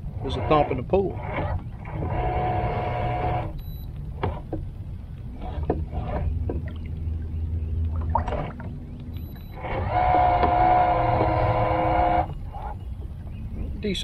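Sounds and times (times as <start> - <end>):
electric trolling motor whine: 0.0 - 4.5, 5.3 - 13.0
low hum: 0.0 - 14.0.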